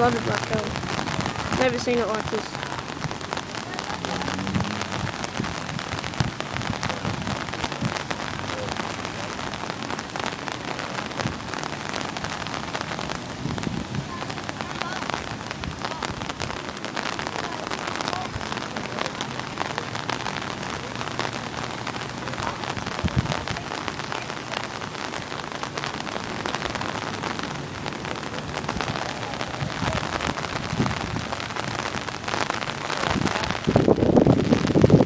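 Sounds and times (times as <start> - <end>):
hissing wash of water: 0.0 - 35.0.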